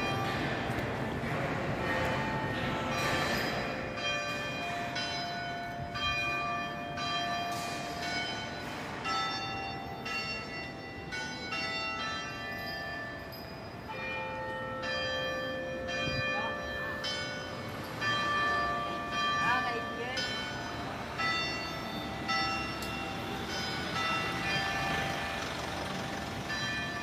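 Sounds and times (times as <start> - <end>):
bells ringing different notes: 0.0 - 27.0.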